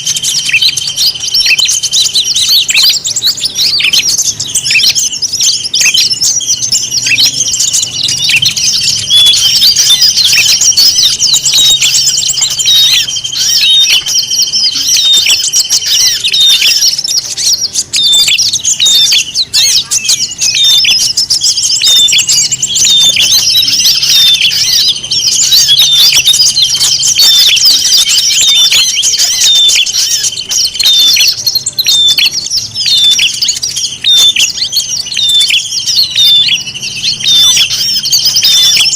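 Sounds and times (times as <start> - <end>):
songbirds chattering and chirping: 0.0 - 38.9.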